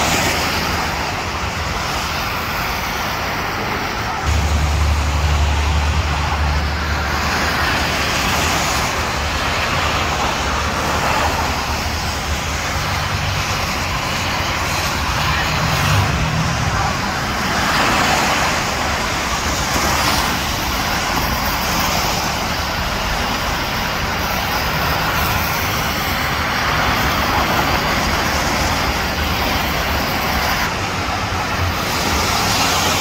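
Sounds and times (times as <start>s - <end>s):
slow traffic engines: 0.0s - 33.0s
tyres on wet pavement: 0.0s - 33.0s.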